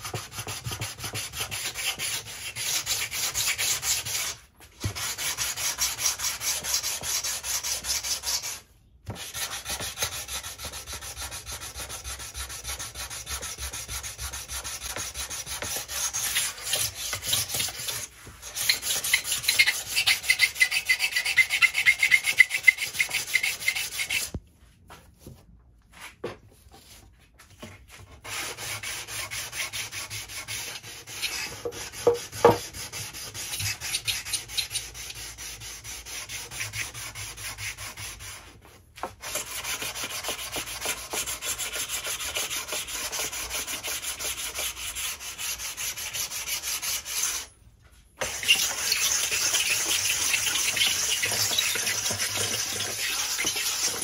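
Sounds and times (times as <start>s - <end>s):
sanding block rubbing wood: 0.0s - 8.6s, 9.2s - 24.4s, 28.2s - 47.5s, 48.2s - 54.0s.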